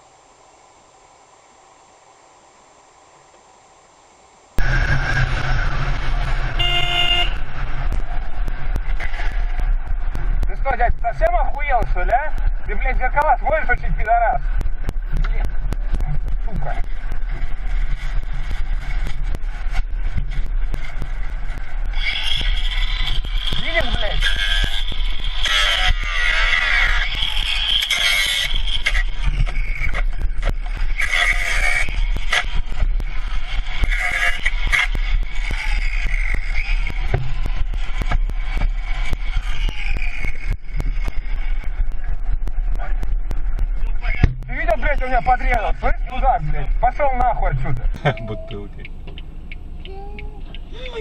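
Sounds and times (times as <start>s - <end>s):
car road and engine rumble: 0.0s - 51.0s
sharp clicks and ticks: 7.2s - 51.0s.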